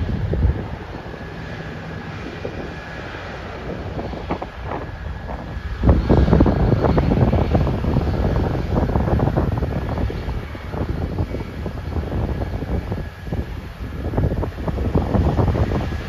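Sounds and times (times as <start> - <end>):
combine harvester drone: 0.0 - 16.0
wind buffeting microphone: 0.0 - 16.0.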